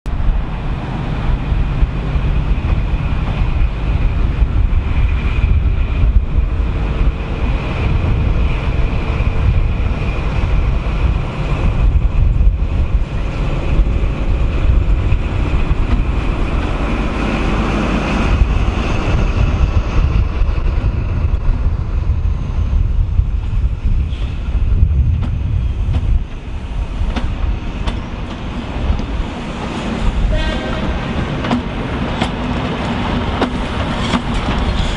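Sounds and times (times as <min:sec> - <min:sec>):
diesel train engine rumble: 0:00.0 - 0:34.9
train wheels on rails: 0:00.1 - 0:34.9.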